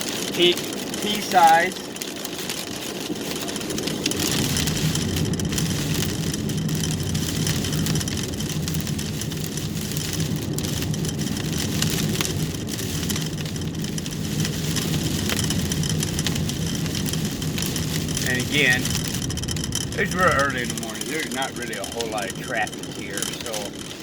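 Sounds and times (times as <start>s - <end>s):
rain and hail striking car: 0.0s - 24.0s
road noise inside car: 0.0s - 24.0s
car engine running: 3.7s - 24.0s.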